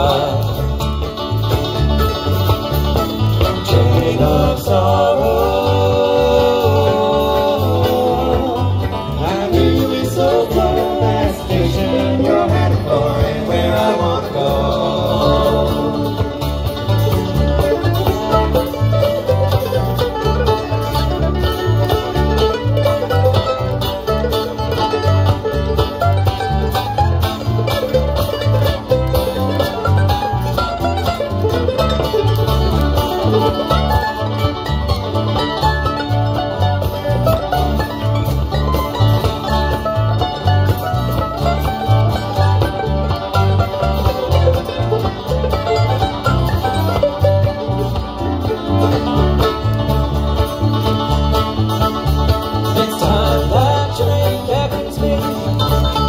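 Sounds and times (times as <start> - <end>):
acoustic guitar: 0.0 - 56.0
banjo: 0.0 - 56.0
electric bass: 0.0 - 56.0
fiddle: 0.0 - 56.0
mandolin: 0.0 - 56.0.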